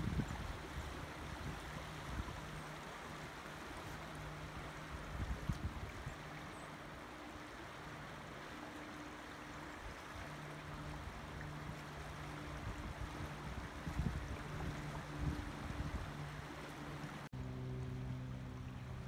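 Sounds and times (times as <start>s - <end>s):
creek water running over rocks: 0.0s - 19.0s.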